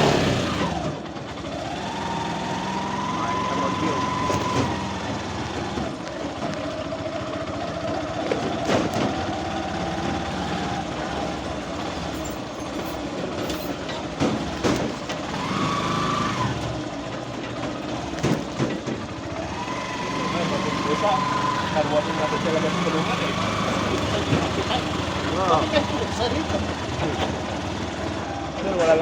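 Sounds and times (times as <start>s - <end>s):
engine running with whine: 0.0s - 29.0s.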